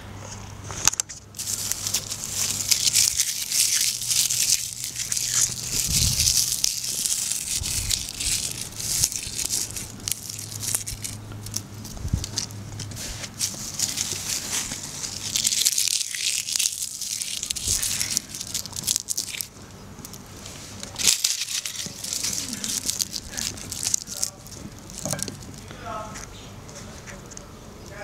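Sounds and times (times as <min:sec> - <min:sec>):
crinkling rustle: 0:00.2 - 0:28.0.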